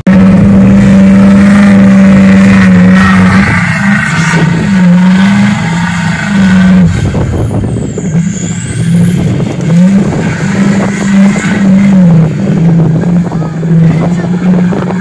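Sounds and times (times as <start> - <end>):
truck engine revving under load: 0.0 - 15.0.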